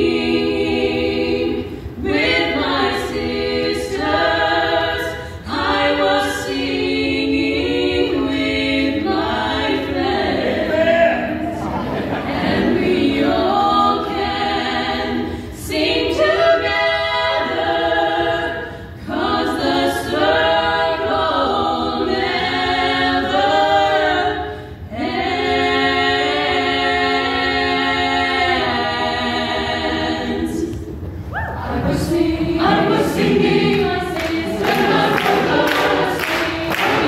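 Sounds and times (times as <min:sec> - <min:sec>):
women's choir singing: 0:00.0 - 0:37.0.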